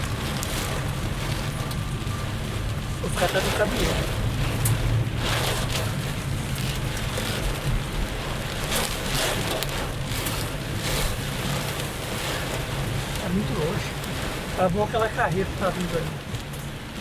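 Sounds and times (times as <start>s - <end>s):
engine and road noise: 0.0s - 17.0s
heavy rain on a car: 0.0s - 17.0s.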